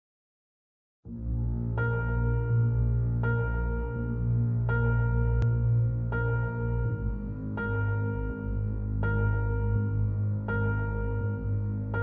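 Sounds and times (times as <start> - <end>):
ambient synth music: 1.1 - 12.0.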